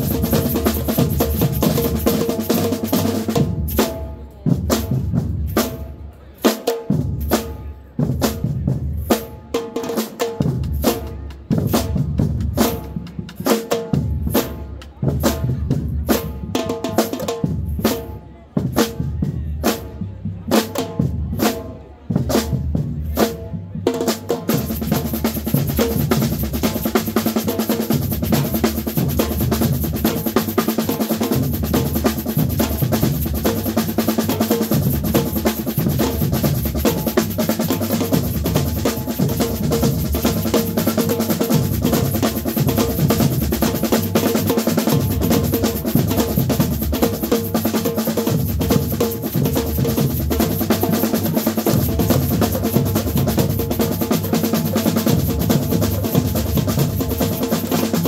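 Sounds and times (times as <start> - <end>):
percussion band drumming: 0.0 - 58.0.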